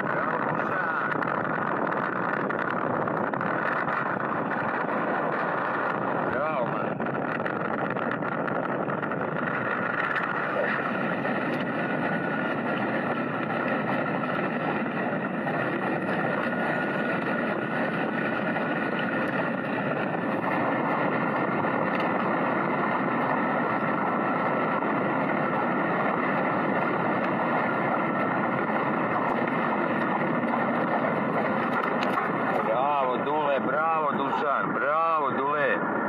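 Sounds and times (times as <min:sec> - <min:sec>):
faint steady whine: 0:00.0 - 0:36.0
vehicle engine and rolling noise: 0:00.0 - 0:36.0.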